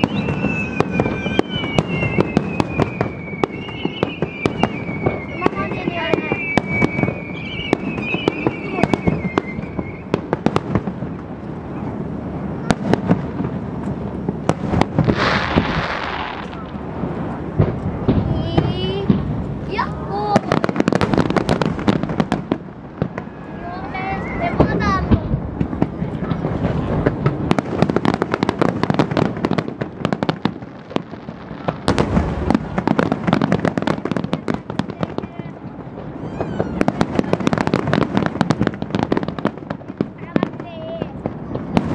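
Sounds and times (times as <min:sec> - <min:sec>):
firework bangs: 0:00.0 - 0:41.9
firework crackling hiss: 0:00.0 - 0:41.9
low booming: 0:00.0 - 0:41.9.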